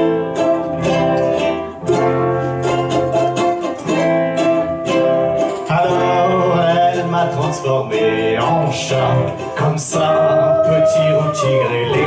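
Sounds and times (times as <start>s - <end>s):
strummed small acoustic string instrument: 0.0s - 12.0s.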